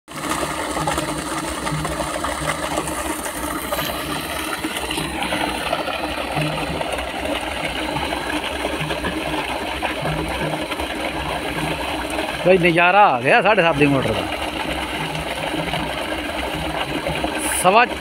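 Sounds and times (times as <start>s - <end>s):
pump low rumble: 0.1s - 18.0s
water gushing and splashing: 0.1s - 18.0s.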